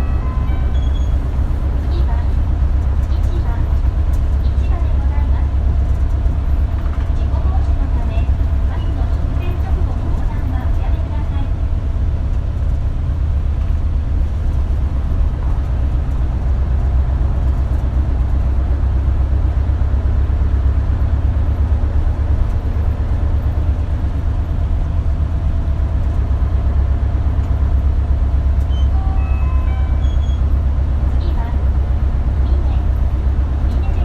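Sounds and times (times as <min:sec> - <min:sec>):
bus engine rumble: 0:00.0 - 0:34.0
road noise: 0:00.0 - 0:34.0.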